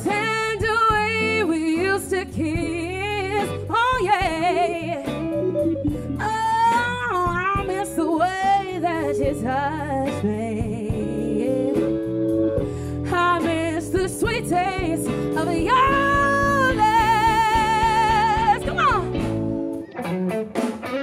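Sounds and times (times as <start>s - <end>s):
woman singing: 0.0s - 5.3s, 6.2s - 19.2s
live band playing: 0.0s - 21.0s.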